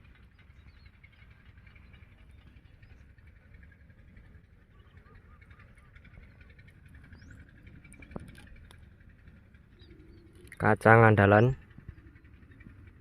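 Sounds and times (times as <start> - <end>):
distant birds chirping: 0.0 - 13.0.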